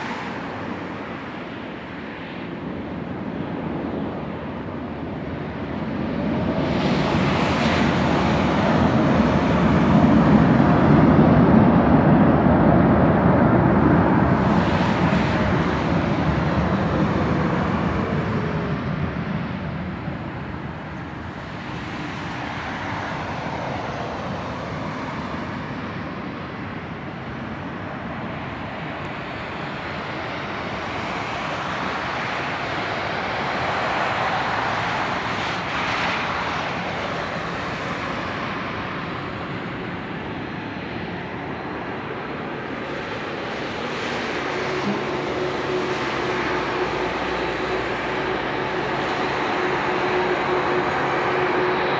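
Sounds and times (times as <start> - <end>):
jet engine whine spooling down: 0.0 - 51.9
jet engines rumbling: 0.0 - 51.9.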